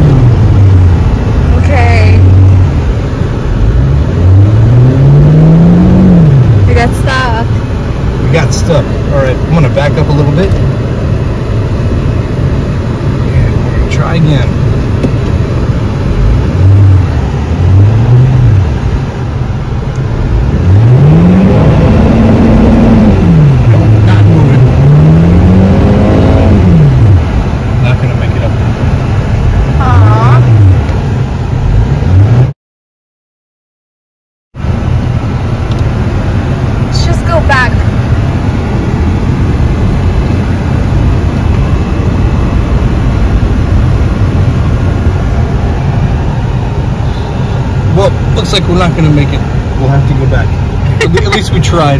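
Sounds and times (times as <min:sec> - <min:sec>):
car engine revving: 0:00.0 - 0:32.6, 0:34.6 - 0:51.9.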